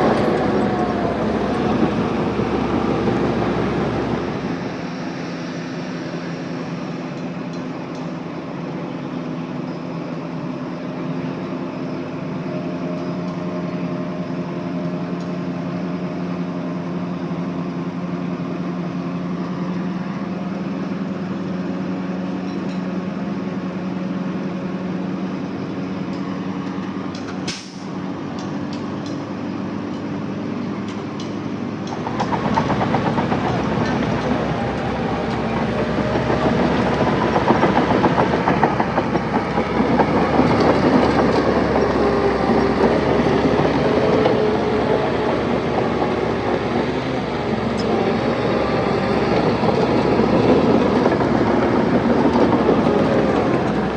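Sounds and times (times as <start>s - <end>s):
heavy diesel machinery engine drone: 0.0s - 53.9s.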